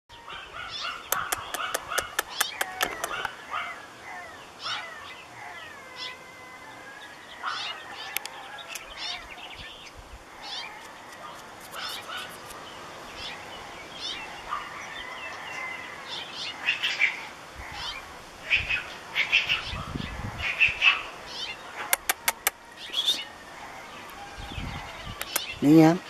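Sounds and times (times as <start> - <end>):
birds chirping and singing: 0.1 - 26.0.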